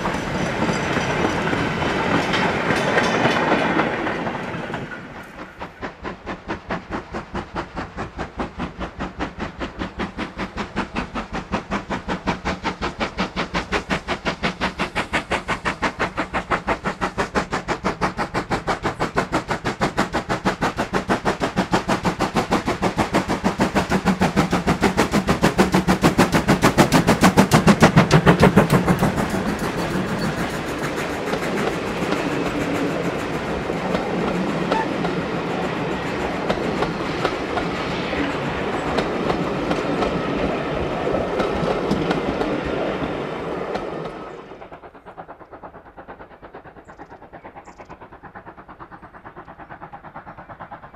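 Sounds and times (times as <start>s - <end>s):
steam locomotive exhaust beating: 0.0s - 50.9s.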